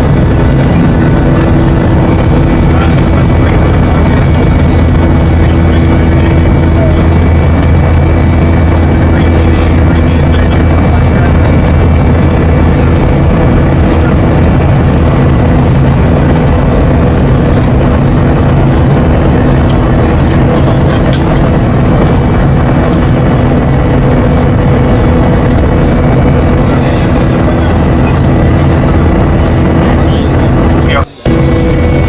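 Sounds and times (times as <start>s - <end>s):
jet engines droning: 0.0s - 32.0s
low hums: 0.0s - 32.0s
rushing air: 0.0s - 32.0s.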